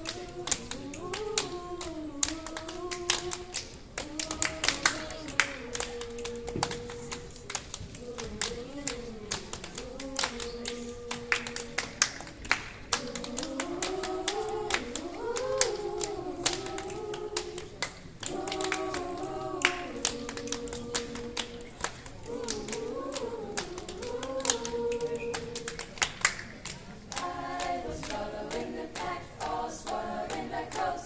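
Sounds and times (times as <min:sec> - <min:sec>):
girls' choir singing: 0:00.0 - 0:31.0
hand claps and slaps: 0:00.0 - 0:31.0.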